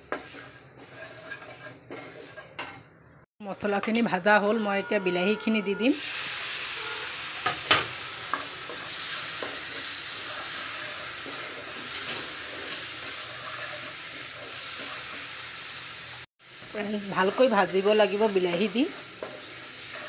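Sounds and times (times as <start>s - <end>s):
tomatoes sizzling in oil: 0.0s - 2.9s, 5.4s - 20.0s.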